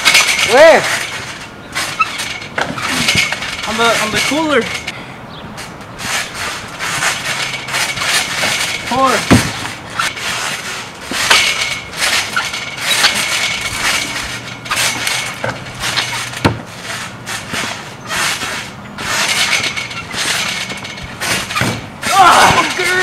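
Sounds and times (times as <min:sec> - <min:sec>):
trampoline springs creaking and jangling: 0:00.0 - 0:23.0.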